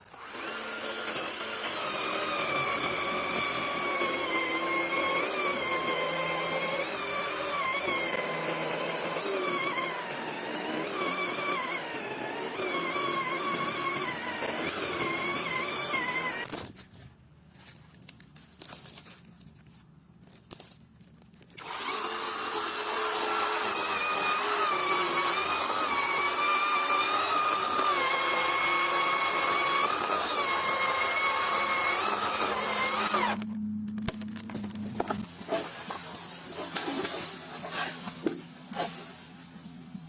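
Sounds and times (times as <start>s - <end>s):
chainsaw cutting wood: 0.0s - 16.7s, 21.6s - 39.1s.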